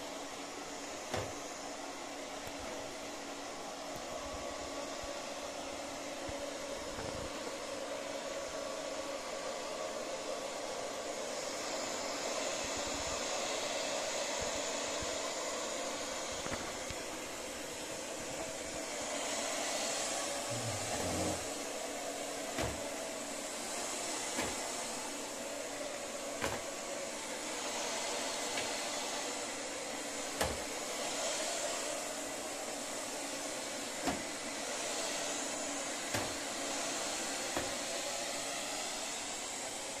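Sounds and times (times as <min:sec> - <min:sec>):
robot vacuum cleaner whirring: 0:00.0 - 0:40.0.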